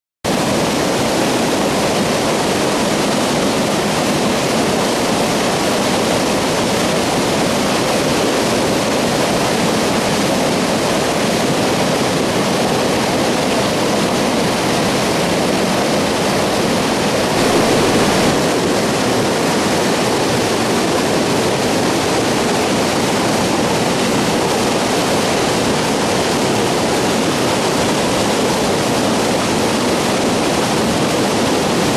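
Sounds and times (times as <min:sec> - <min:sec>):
river rushing through white water: 0:00.3 - 0:31.9.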